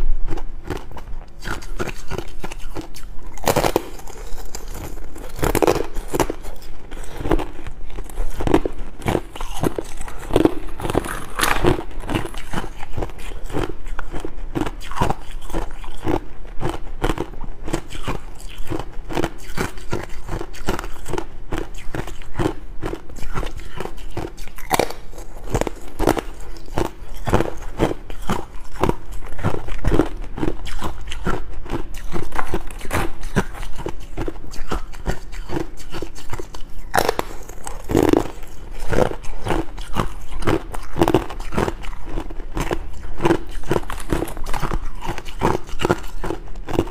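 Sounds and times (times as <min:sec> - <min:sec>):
crunching ice: 0:01.4 - 0:46.9.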